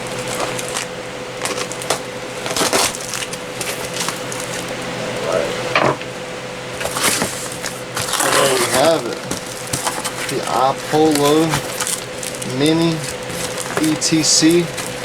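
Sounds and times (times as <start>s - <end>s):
cardboard rustling and cracking: 0.0s - 4.8s, 6.7s - 15.0s
faint steady hum: 0.0s - 15.0s.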